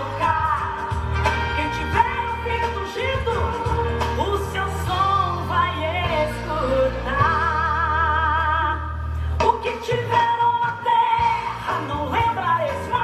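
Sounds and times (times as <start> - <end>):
person singing: 0.0 - 13.0
steady bass line: 0.0 - 13.0.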